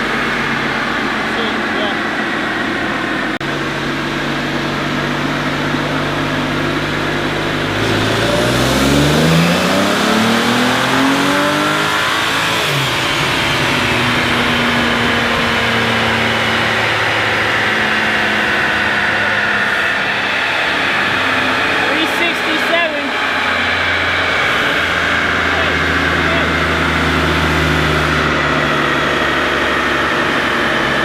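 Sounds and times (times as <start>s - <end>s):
car engine revving on dyno: 0.0s - 31.0s.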